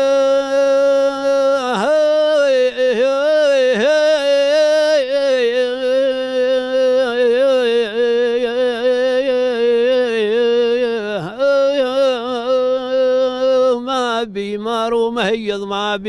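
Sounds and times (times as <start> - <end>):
person singing long note: 0.0 - 13.9.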